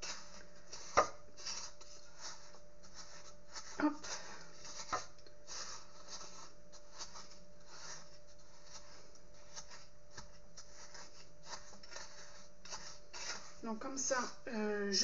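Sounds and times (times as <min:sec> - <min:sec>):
dough scraping in mixing bowl: 0:00.0 - 0:15.0.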